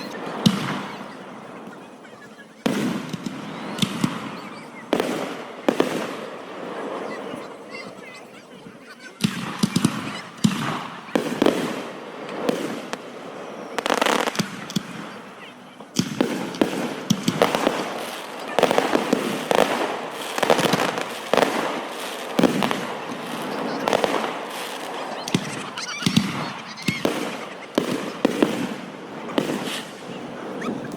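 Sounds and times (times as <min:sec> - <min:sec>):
fireworks bursting with bangs: 0:00.0 - 0:30.9.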